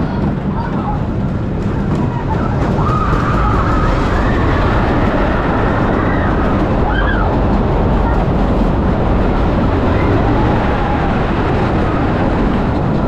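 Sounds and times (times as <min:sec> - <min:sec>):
coaster wheels rumbling on wooden track: 0:00.0 - 0:13.0.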